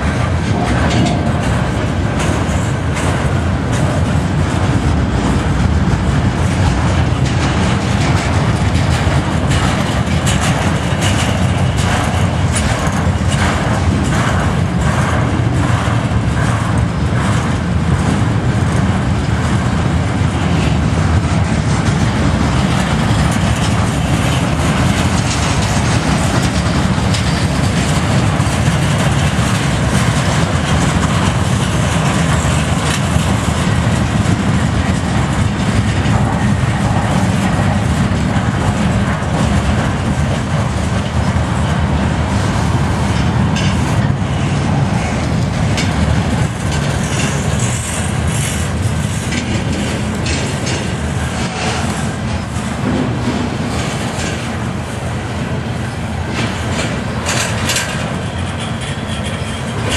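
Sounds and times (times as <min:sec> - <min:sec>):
train wheels rumbling on rail: 0:00.0 - 0:59.9
wheels clicking over track: 0:00.0 - 0:59.9.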